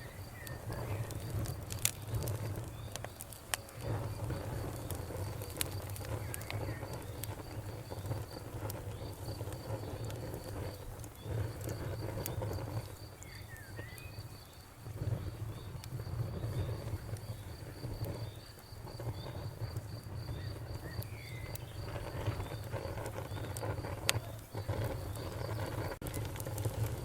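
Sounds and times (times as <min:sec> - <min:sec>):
crickets chirping: 0:00.0 - 0:26.0
wood fire crackling: 0:00.0 - 0:27.0.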